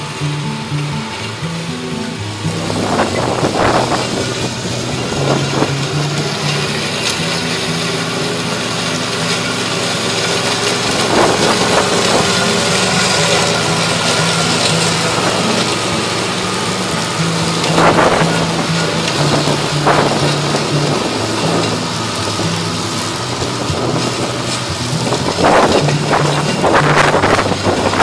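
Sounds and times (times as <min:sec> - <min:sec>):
riding mower cutting grass: 0:00.0 - 0:28.0.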